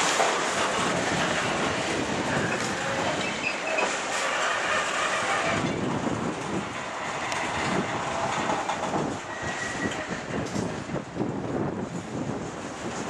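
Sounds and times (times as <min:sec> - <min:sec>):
wagons rattling: 0:00.0 - 0:10.8
train wheels on track: 0:00.0 - 0:13.0.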